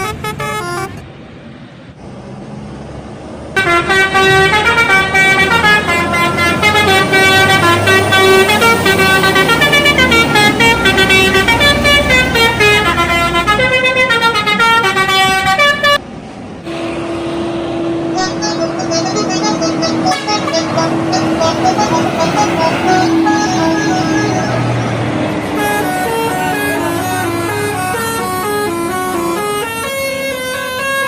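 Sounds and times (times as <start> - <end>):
bus air horn playing a tune: 0.0 - 1.0, 3.6 - 16.0, 16.7 - 31.0
traffic noise: 0.0 - 31.0.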